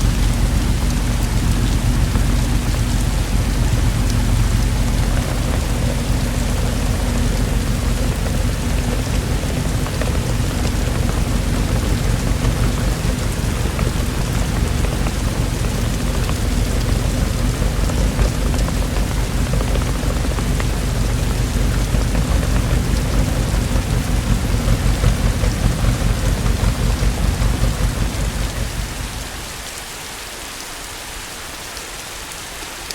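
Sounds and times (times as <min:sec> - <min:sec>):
thunder rumbling: 0:00.0 - 0:29.7
steady rain: 0:00.0 - 0:32.9.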